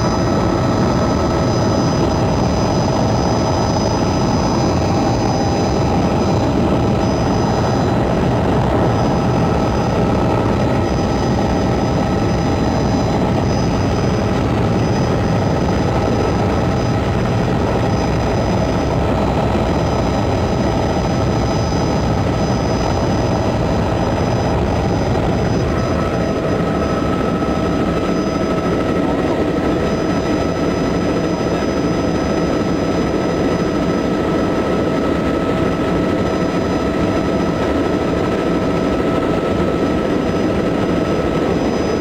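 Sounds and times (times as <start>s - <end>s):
helicopter rotor and engine drone: 0.0s - 42.0s.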